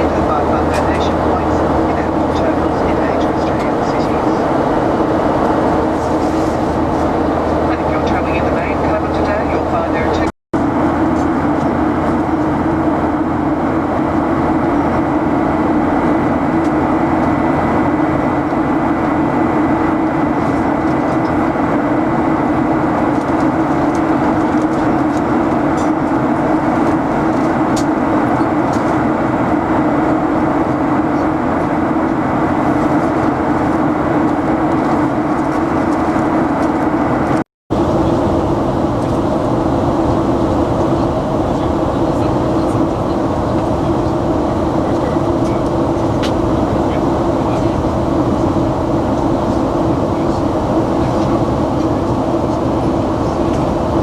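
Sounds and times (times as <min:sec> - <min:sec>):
airliner cabin engine hum: 0:00.0 - 0:54.0.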